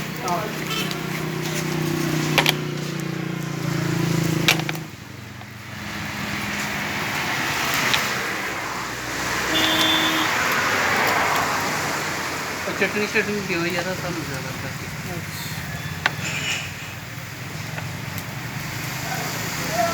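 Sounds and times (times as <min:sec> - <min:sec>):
passing traffic: 0:00.0 - 0:19.9
vehicle engine running: 0:00.0 - 0:19.9.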